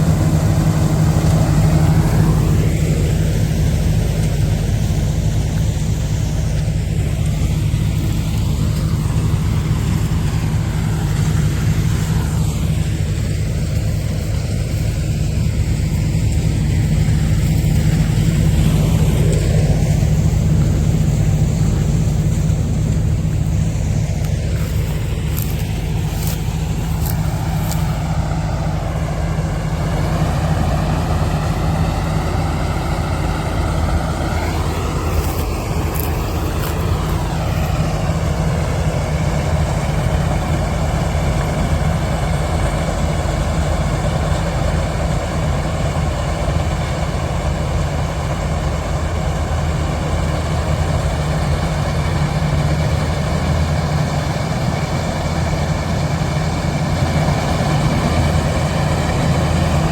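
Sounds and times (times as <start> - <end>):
combine harvester engine running: 0.0 - 59.9
machinery whine: 0.0 - 59.9.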